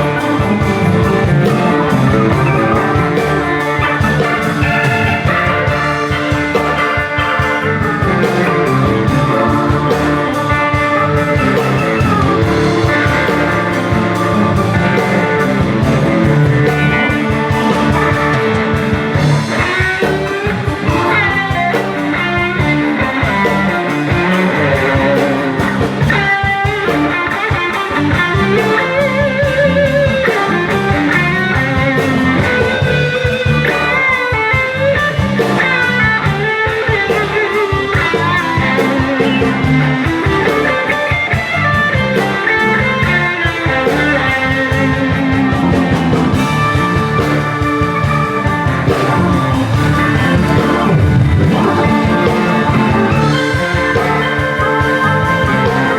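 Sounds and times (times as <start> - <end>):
bass guitar: 0.0 - 55.9
drums: 0.0 - 55.9
lead guitar bent notes: 0.0 - 55.9.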